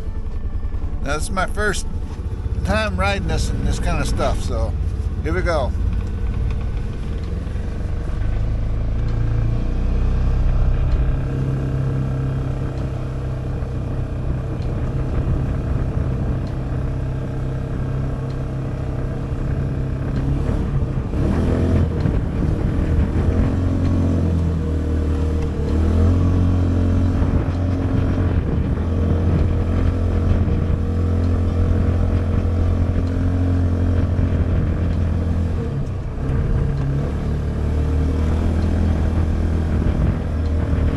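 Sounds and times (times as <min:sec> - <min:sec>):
engine running while driving: 0:00.0 - 0:40.9.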